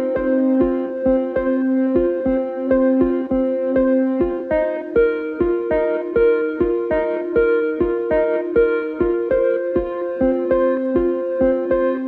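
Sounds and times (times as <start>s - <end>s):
plucked melody over low beat: 0.0s - 12.0s.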